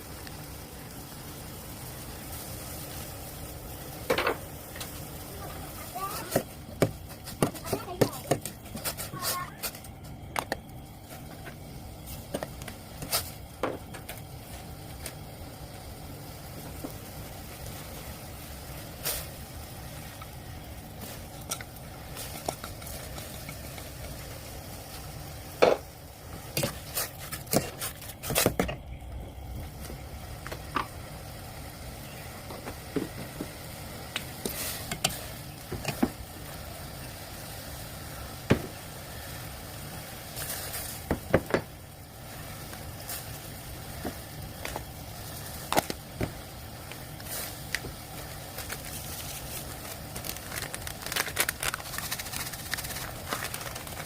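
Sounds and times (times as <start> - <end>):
steady low cooking noise: 0.0 - 54.0.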